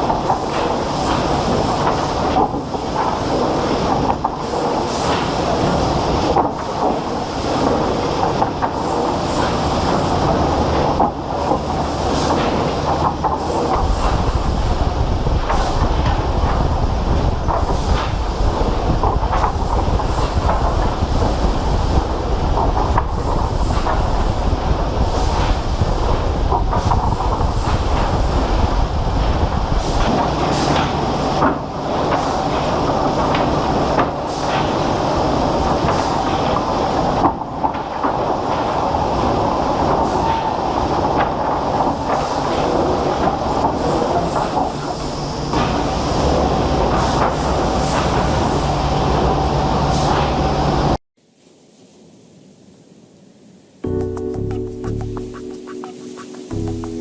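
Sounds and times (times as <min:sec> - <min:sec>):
machinery rattling and clattering: 0:00.0 - 0:51.0.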